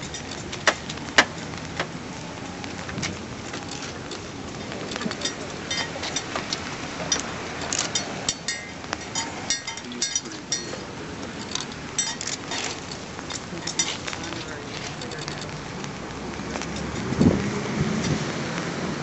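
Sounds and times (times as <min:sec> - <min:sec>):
light clinks and ticks: 0:00.0 - 0:01.9, 0:03.1 - 0:17.2
steady background hiss: 0:00.0 - 0:19.0.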